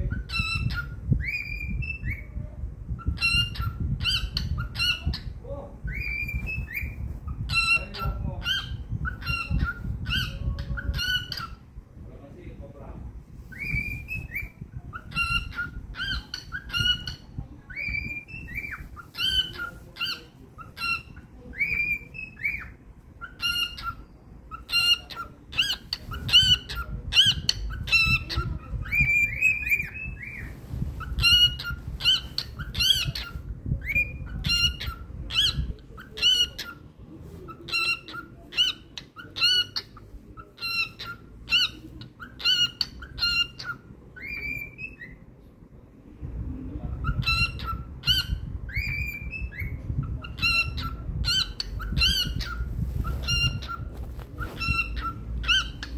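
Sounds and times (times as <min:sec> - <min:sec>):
cockatiel whistling: 0:00.1 - 0:02.3, 0:05.8 - 0:11.6, 0:13.5 - 0:36.8, 0:37.5 - 0:45.2, 0:47.0 - 0:55.9.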